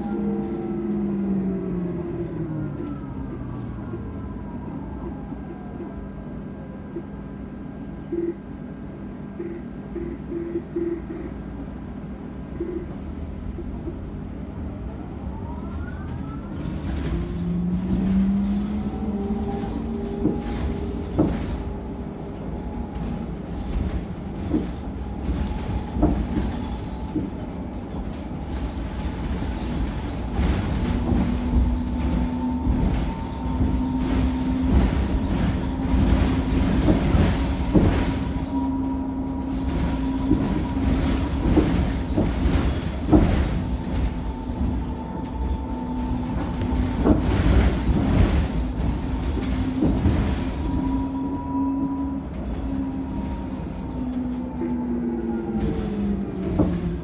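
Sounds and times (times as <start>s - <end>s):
low road rumble: 0.0s - 57.0s.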